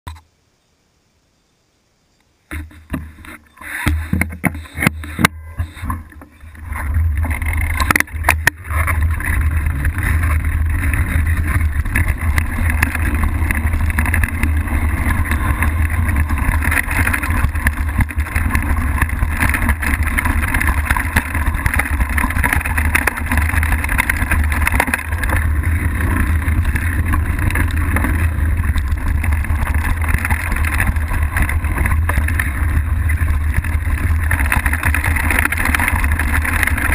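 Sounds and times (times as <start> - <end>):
bike rattling: 2.5 - 36.9
knocks and clatters: 2.5 - 36.9
tyres rolling over dirt and stones: 2.5 - 36.9
wind buffeting camera: 2.5 - 36.9.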